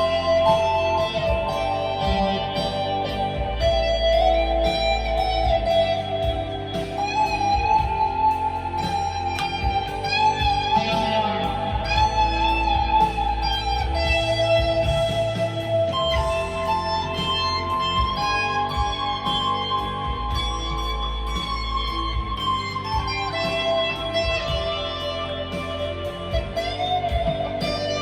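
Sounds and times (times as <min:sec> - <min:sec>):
electric guitar wavering notes: 0:00.0 - 0:28.0.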